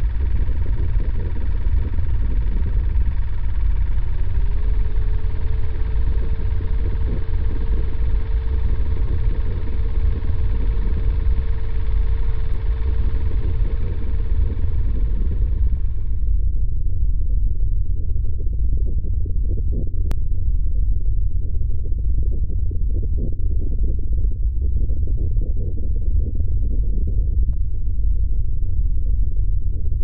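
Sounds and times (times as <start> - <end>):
faint steady hum: 0.0 - 30.0
loud low rumble: 0.0 - 30.0.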